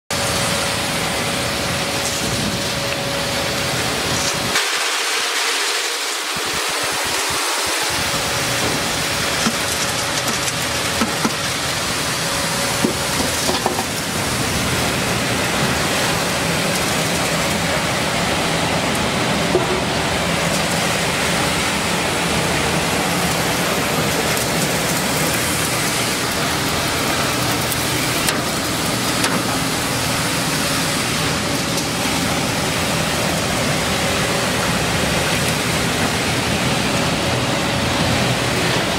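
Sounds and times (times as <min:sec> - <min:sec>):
milling machine grinding corn: 0:00.1 - 0:38.9.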